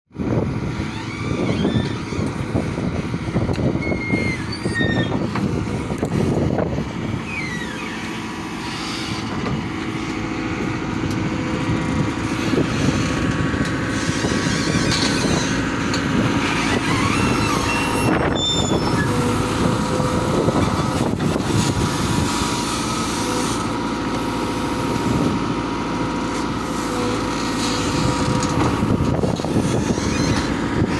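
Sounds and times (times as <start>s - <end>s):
backhoe diesel engine running: 0.1s - 30.9s.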